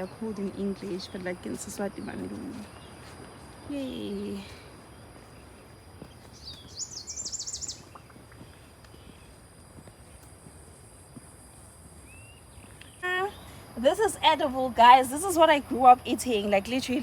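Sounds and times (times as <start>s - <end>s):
faint high insect whine: 0.0s - 17.0s.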